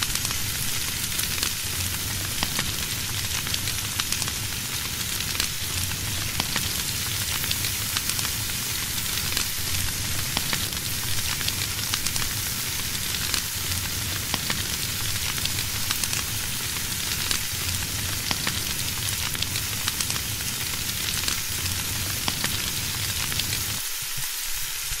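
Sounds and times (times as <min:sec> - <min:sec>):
popping and crackling: 0:00.0 - 0:23.8
bacon sizzling: 0:00.0 - 0:25.0.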